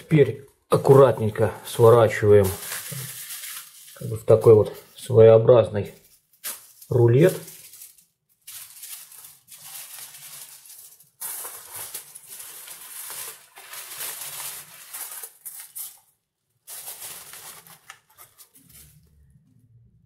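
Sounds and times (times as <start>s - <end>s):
aluminium foil crinkling: 0.7s - 5.1s, 5.9s - 19.4s.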